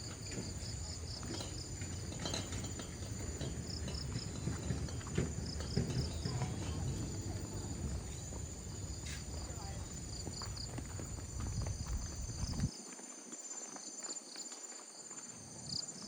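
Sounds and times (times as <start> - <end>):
footsteps on a path: 0.0 - 16.0
insects chirping: 0.0 - 16.0.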